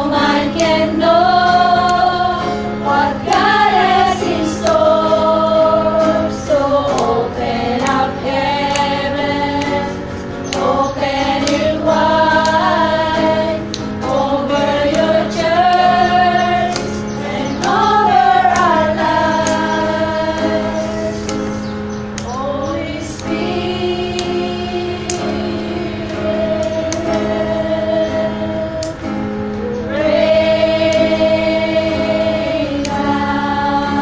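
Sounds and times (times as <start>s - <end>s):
strummed acoustic guitar: 0.0s - 34.0s
women singing worship song: 0.0s - 34.0s.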